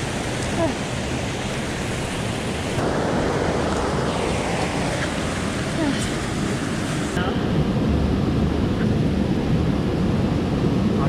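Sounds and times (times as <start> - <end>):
mountain stream rushing: 0.0 - 10.9.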